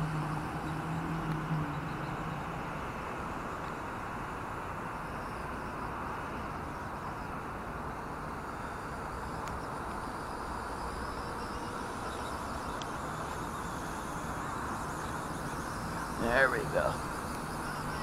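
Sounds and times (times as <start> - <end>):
rc helicopter rotor whir: 0.0 - 18.0.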